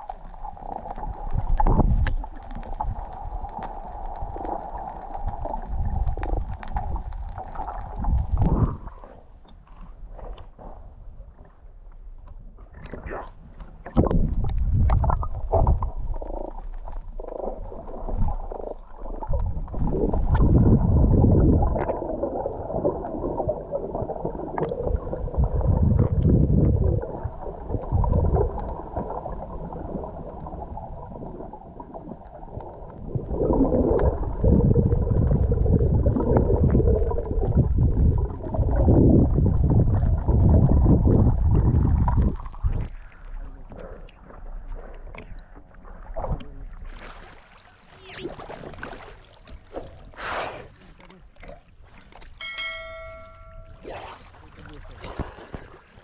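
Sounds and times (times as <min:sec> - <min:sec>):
underwater rumble and gurgling: 0:00.0 - 0:56.0.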